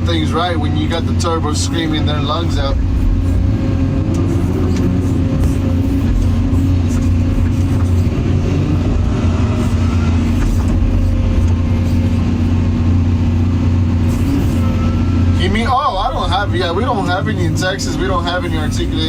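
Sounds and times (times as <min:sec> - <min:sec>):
excavator diesel engine running: 0:00.0 - 0:19.0
turbocharger whining: 0:00.0 - 0:19.0.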